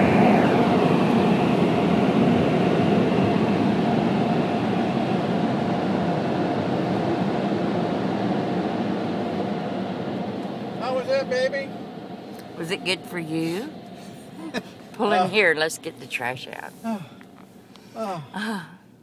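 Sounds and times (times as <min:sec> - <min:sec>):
car wash air blowers rushing: 0:00.0 - 0:18.2
falling whine: 0:00.0 - 0:18.5.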